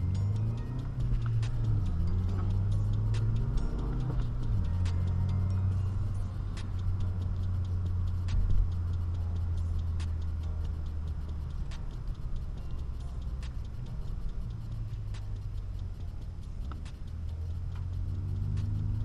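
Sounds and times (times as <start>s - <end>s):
car engine and exhaust droning: 0.0s - 19.0s
faint ticking: 0.0s - 19.0s.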